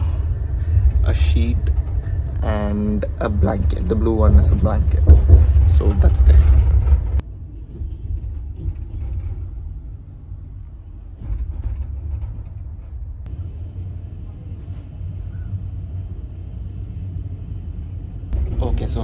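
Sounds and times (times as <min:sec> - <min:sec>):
train rumbling from inside: 0:00.0 - 0:19.0.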